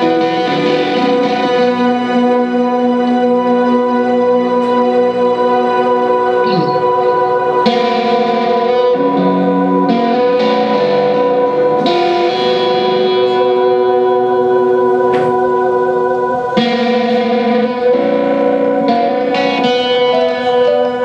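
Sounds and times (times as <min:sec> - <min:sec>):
electric guitar with effects: 0:00.0 - 0:21.0.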